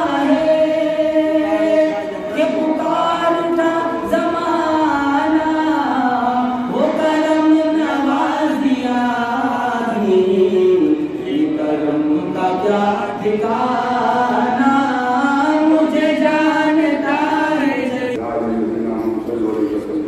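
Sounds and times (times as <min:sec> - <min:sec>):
man chanting a prayer: 0:00.0 - 0:20.0.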